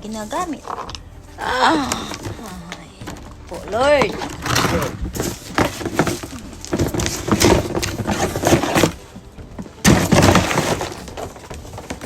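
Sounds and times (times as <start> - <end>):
handling knocks and clatter: 2.0 - 12.0.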